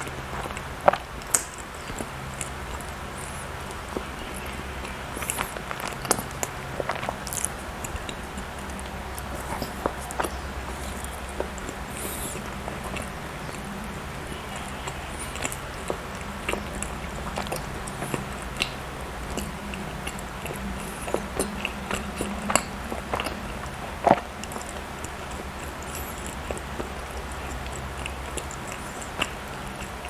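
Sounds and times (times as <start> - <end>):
person chewing: 0.0 - 30.0
steady low hum: 0.0 - 30.0.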